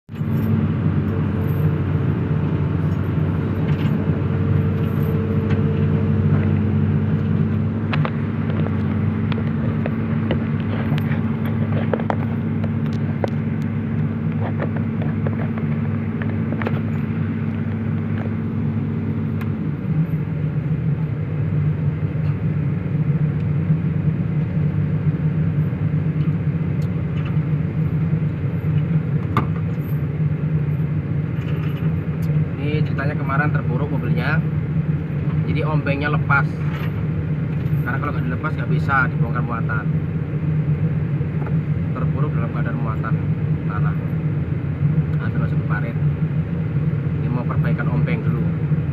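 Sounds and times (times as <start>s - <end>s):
heavy diesel engine running: 0.1s - 48.9s.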